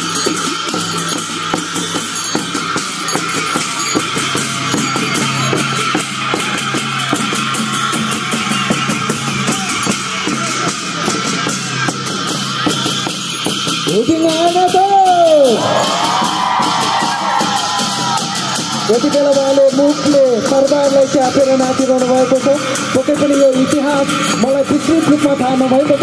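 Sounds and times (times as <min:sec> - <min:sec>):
fast drum and cymbal beat: 0:00.0 - 0:26.0.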